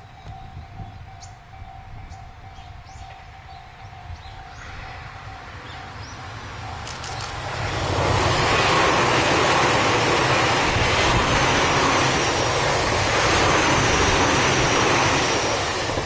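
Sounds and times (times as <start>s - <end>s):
electric train wheels on rails: 0.0s - 16.0s.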